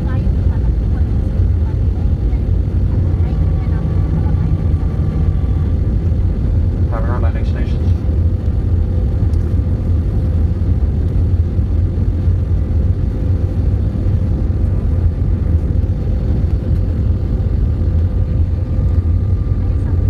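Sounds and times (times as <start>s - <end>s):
faint steady whine: 0.0s - 20.0s
jet engine roar in cabin: 0.0s - 20.0s.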